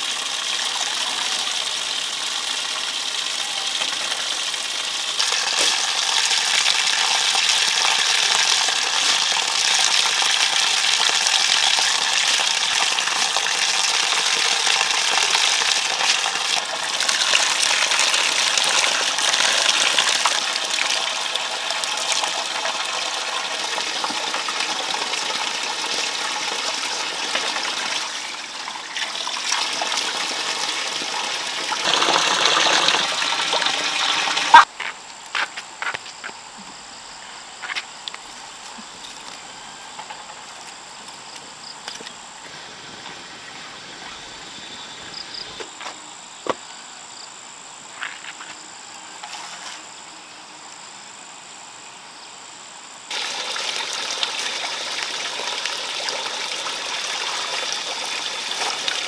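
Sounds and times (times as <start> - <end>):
running water: 0.0 - 34.7, 38.1 - 45.9, 53.1 - 59.0.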